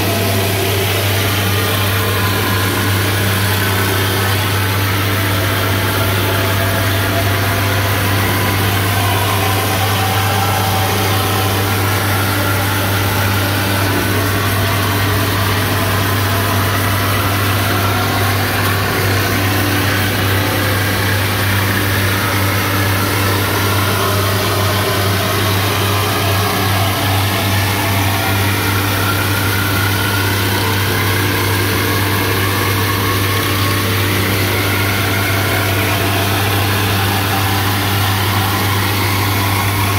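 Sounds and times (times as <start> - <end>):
woodworking machine humming: 0.0 - 39.9.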